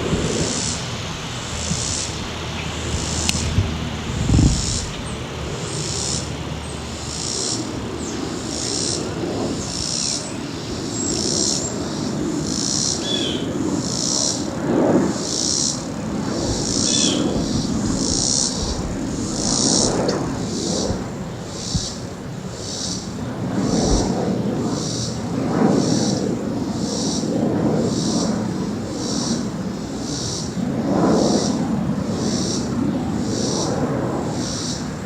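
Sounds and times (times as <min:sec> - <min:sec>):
insect calling in pulses: 0:00.0 - 0:24.2, 0:24.8 - 0:25.2, 0:25.8 - 0:27.3, 0:29.0 - 0:30.6, 0:31.2 - 0:33.7.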